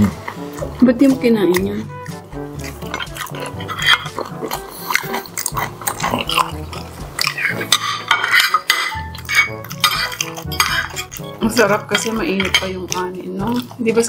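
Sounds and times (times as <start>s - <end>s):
background music: 0.0s - 14.0s
chewing and mouth smacking: 0.0s - 14.0s
cutlery scraping on plates: 2.6s - 14.0s.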